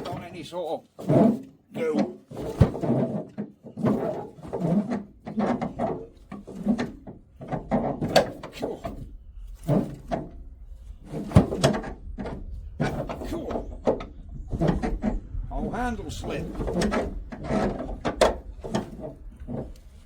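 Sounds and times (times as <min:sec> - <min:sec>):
tractor engine hand cranked clanking: 0:01.1 - 0:10.4, 0:11.0 - 0:15.2, 0:16.3 - 0:20.0.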